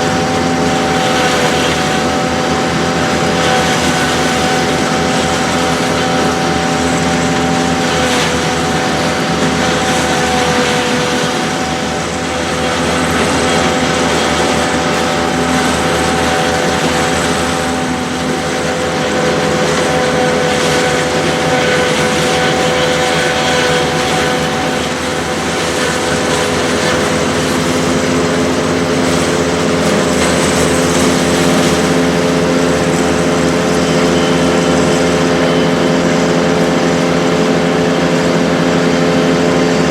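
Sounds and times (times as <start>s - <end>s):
steady mechanical whine: 0.0s - 39.9s
tractor engine running: 0.0s - 39.9s.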